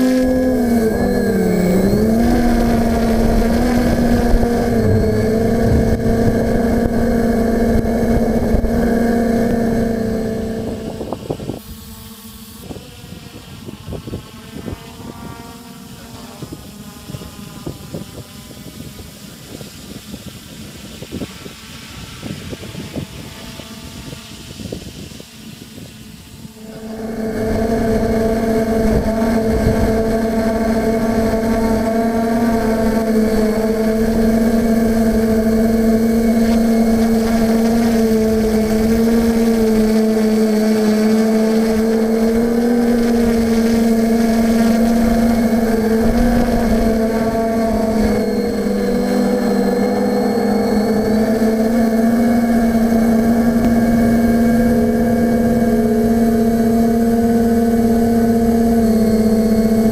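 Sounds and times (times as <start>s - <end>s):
drone motors humming: 0.0s - 59.9s
wind buffeting microphone: 0.0s - 59.9s.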